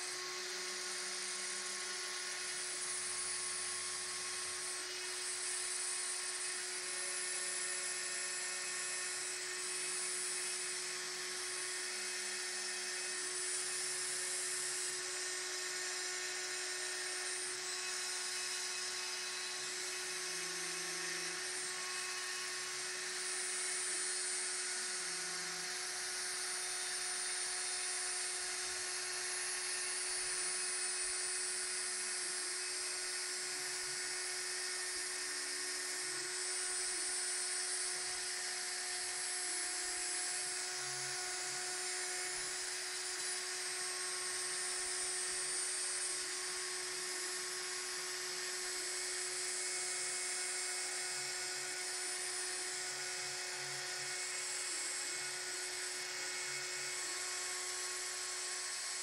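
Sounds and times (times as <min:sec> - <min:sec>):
router spindle whining: 0:00.0 - 0:59.0.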